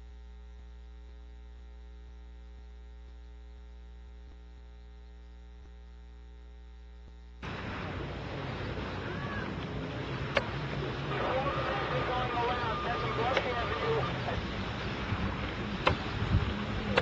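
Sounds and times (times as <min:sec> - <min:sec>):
electrical mains hum: 0:00.0 - 0:17.0
outdoor noise: 0:00.0 - 0:17.0.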